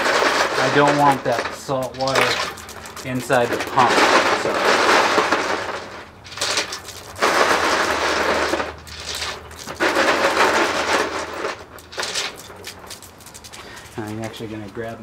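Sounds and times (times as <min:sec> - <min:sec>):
ice cubes clattering into plastic tub: 0:00.0 - 0:14.7.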